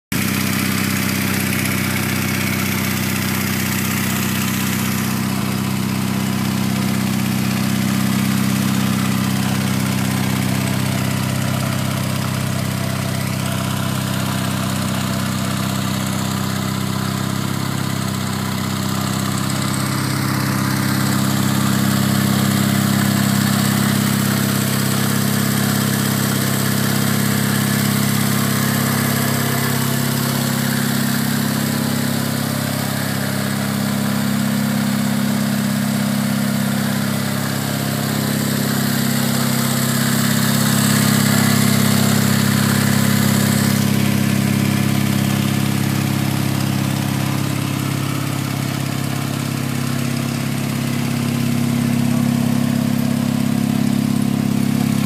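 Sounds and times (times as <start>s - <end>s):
motorcycle engine idling: 0.1s - 55.0s.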